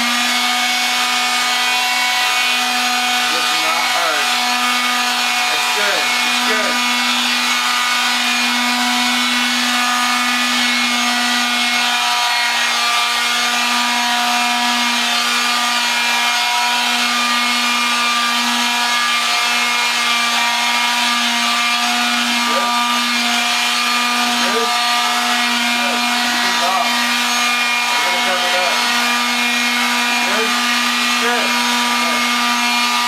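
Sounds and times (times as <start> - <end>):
power tool motor running: 0.0 - 33.0.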